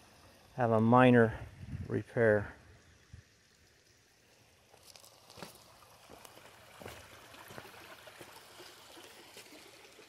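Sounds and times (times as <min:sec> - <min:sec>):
creek water trickling over stones: 0:00.0 - 0:10.0.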